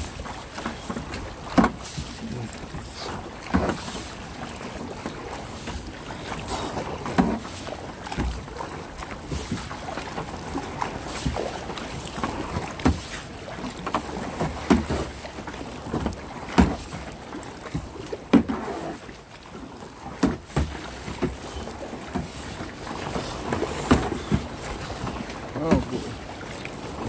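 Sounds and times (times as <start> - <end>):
paddle splashing with knock: 0.0 - 27.0
water slapping plastic hull: 0.0 - 27.0.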